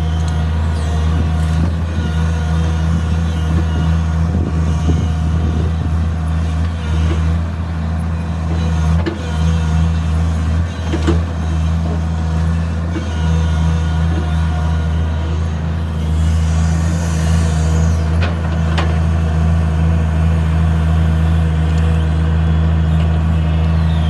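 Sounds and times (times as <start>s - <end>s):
excavator diesel engine humming: 0.0s - 24.0s.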